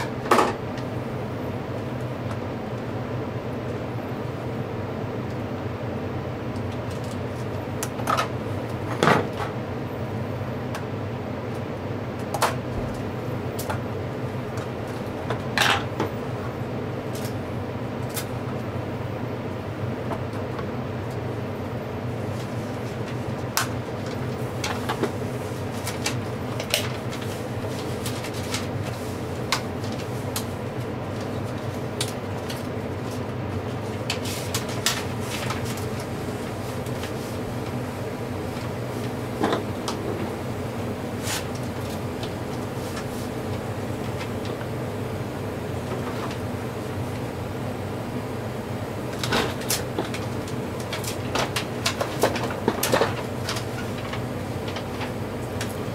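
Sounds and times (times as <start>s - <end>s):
steady background hum: 0.0s - 55.9s.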